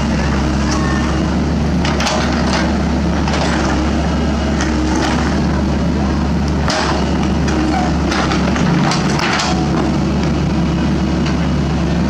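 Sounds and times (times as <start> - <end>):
excavator diesel engine: 0.0 - 12.0.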